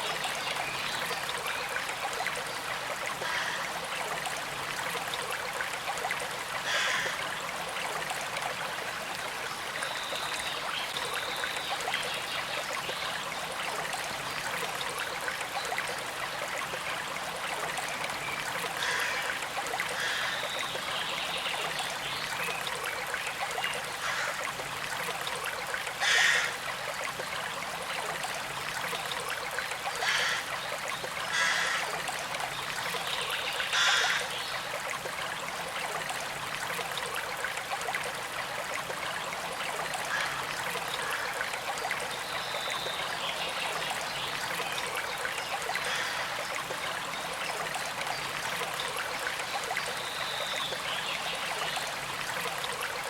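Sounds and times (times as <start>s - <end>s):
stream trickling over stones: 0.0s - 53.0s.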